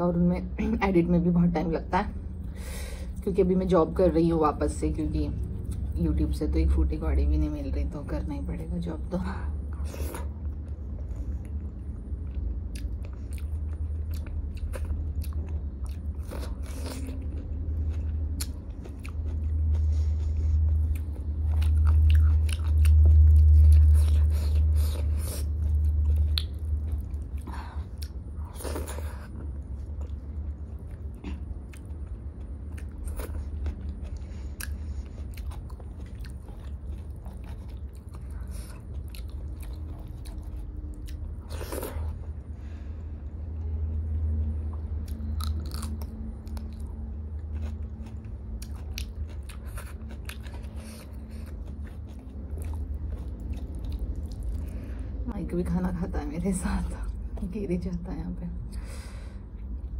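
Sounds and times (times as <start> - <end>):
close chewing and mouth sounds: 3.7 - 55.3, 58.6 - 59.9.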